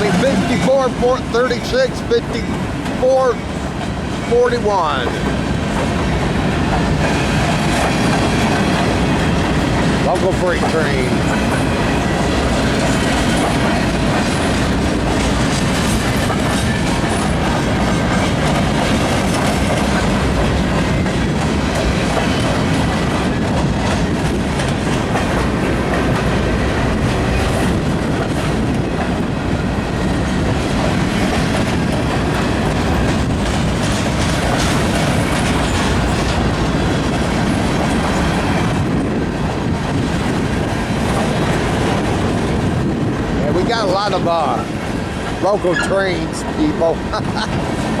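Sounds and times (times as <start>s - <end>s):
freight train wheels clacking: 0.0s - 48.0s.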